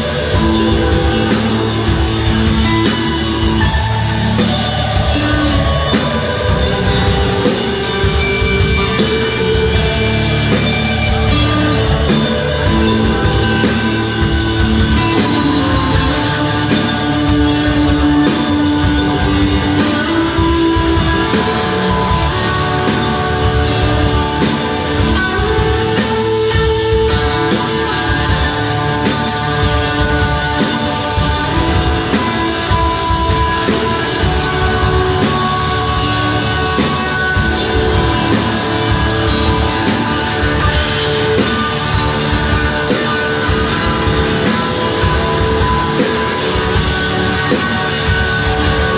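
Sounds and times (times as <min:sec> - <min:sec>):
drum kit steady beat: 0:00.0 - 0:48.9
guitars playing chords: 0:00.0 - 0:48.9
rock band playing live: 0:00.0 - 0:48.9.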